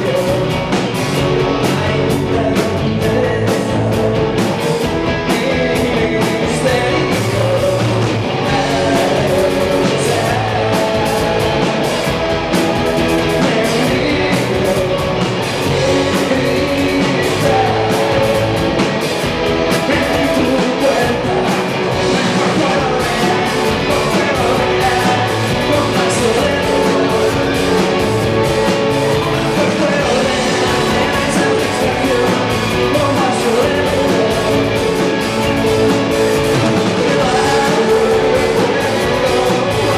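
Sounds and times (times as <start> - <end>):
electric guitars: 0.0 - 39.9
live rock band playing: 0.0 - 39.9
man singing: 0.0 - 39.9.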